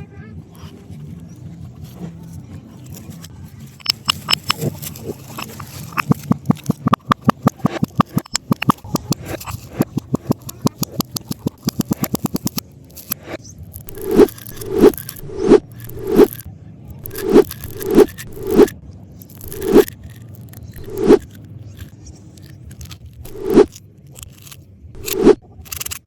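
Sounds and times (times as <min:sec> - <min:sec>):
rapid sharp crunches: 0:03.8 - 0:26.0.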